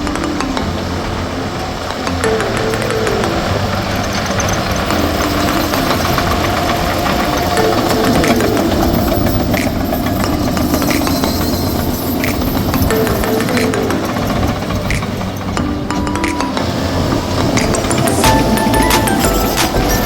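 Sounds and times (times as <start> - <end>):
heavy machinery diesel engine: 0.6 - 20.0.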